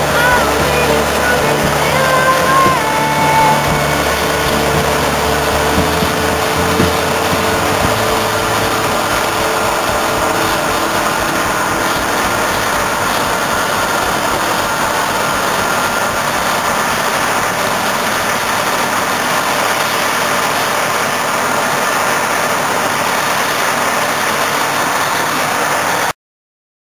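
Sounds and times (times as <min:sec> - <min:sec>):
combine harvester running: 0:00.0 - 0:26.1.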